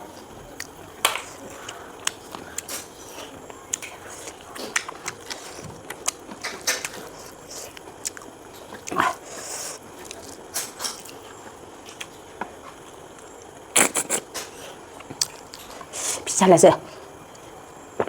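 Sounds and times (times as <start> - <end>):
close-miked chewing and smacking: 0.2 - 15.9.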